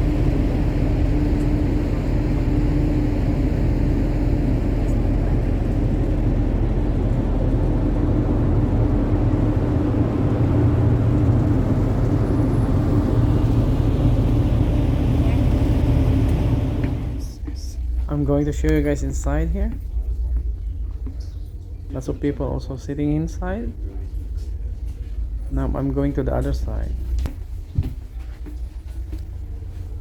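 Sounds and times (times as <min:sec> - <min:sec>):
ferry engines rumbling: 0:00.0 - 0:30.0.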